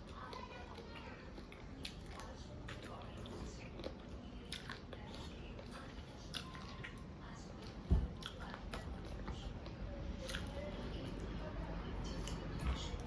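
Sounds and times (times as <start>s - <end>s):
chewing and biting: 0.0s - 11.3s.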